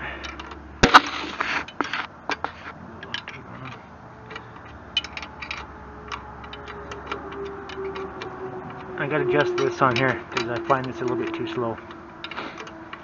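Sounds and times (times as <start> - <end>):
metallic clicks of hand tools: 0.2 - 0.7, 1.6 - 13.0.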